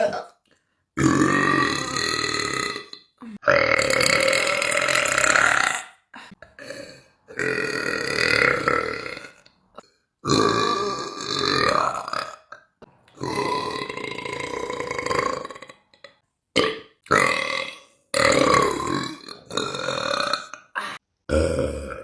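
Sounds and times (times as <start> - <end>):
woman burping: 0.0 - 0.3, 1.0 - 22.0.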